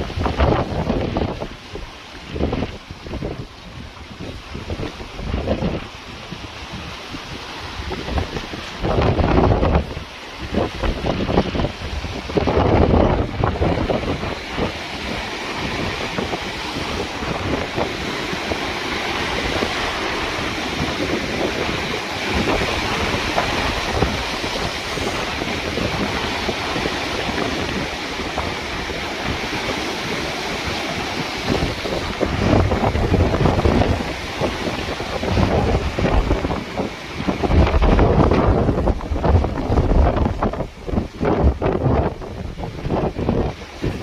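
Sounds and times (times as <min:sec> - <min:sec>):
ocean waves washing ashore: 0:00.0 - 0:44.0
wind buffeting microphone: 0:00.0 - 0:44.0.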